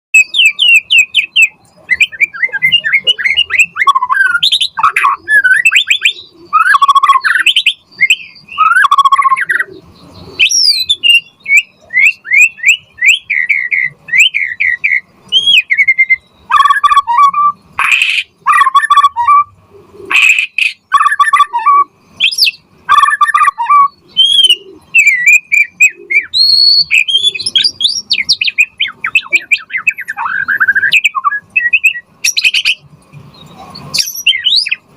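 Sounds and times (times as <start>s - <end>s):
bird singing whistles and trills: 0.2s - 34.9s.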